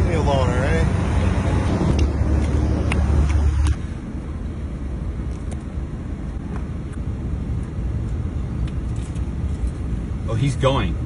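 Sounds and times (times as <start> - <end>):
heavier low rumble: 0.0 - 10.3
traffic rumble: 0.0 - 11.0.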